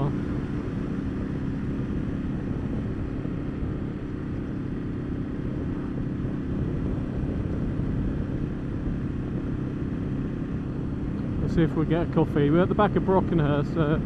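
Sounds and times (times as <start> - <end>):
motorcycle engine cruising: 0.0 - 14.0
wind noise: 0.0 - 14.0.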